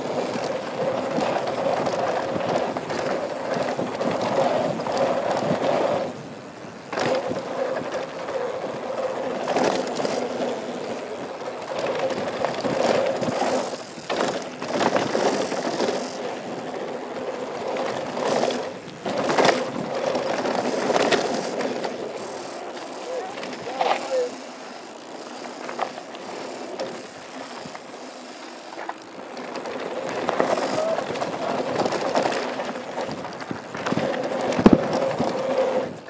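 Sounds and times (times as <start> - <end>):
bike tyres rattling over dirt: 0.0 - 36.0.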